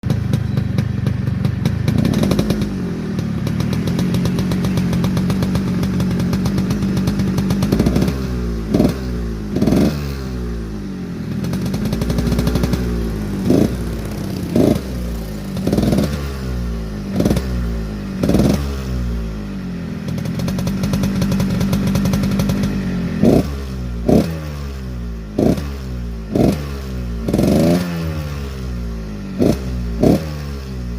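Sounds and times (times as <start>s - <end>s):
motorcycle engine idling and revving: 0.0s - 30.9s.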